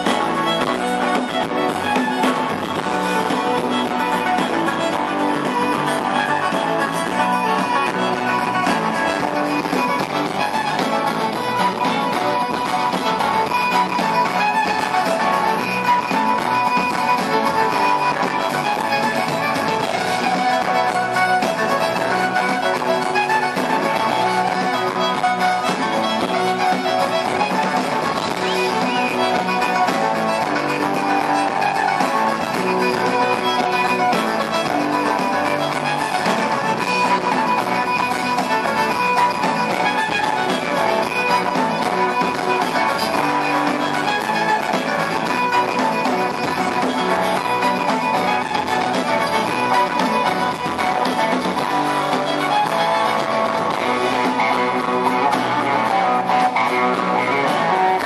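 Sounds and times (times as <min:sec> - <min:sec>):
fiddle playing a reel: 0:00.0 - 0:58.0
guitar: 0:00.0 - 0:58.0.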